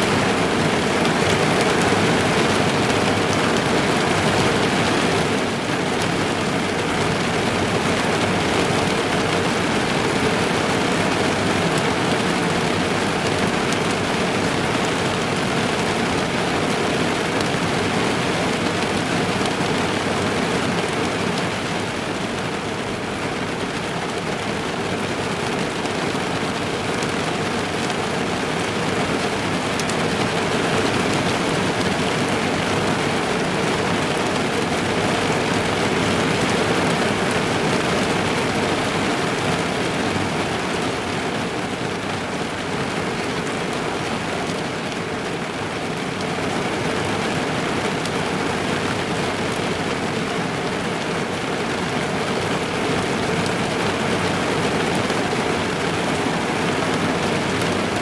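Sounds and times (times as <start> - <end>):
rain pattering on car roof: 0.1 - 58.0.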